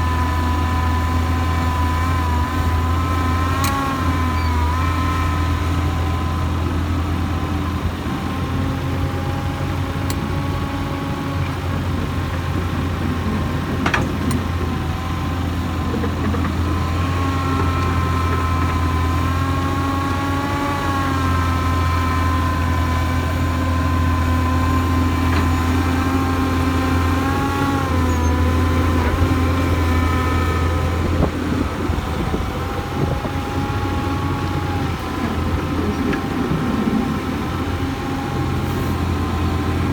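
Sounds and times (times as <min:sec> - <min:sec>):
excavator engine droning: 0:00.0 - 0:39.9
hydraulic whine: 0:00.0 - 0:39.9.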